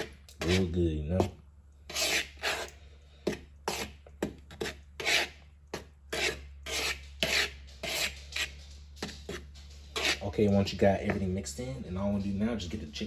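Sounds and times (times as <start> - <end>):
metal spoon scraping plastic bowl: 0.0 - 12.2.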